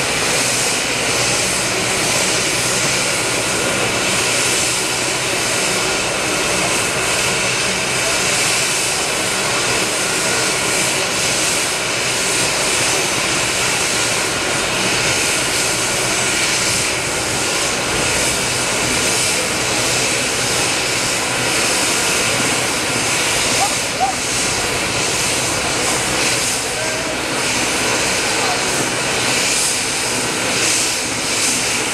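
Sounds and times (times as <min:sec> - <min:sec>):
helicopter turbine whine and rotors: 0:00.0 - 0:31.9.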